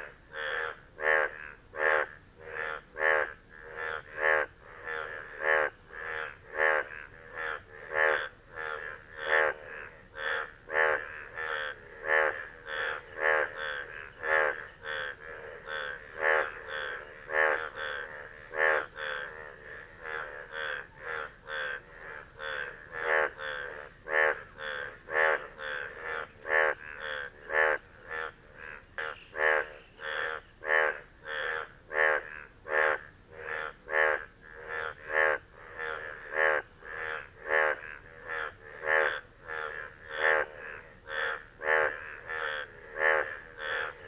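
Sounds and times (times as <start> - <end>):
bullfrog croaking: 0.0 - 44.0.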